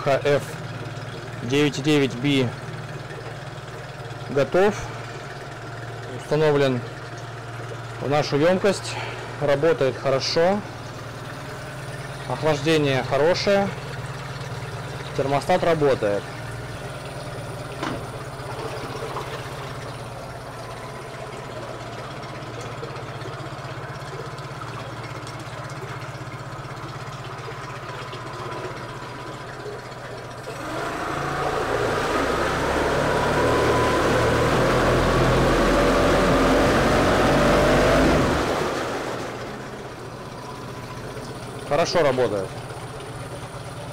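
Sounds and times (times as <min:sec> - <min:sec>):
outboard motor engine: 0:00.0 - 0:43.9
propeller churning water: 0:00.0 - 0:43.9.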